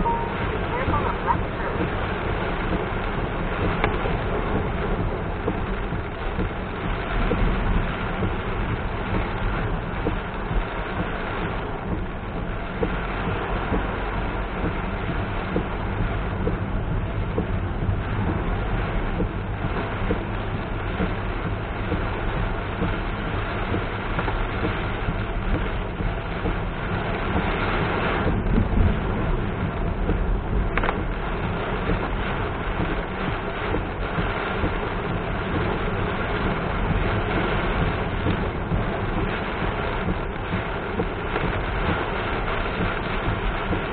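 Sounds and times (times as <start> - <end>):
heavy rain and wet tyre noise: 0.0 - 43.9
low road rumble: 0.0 - 43.9
faint ticks: 1.8 - 43.9.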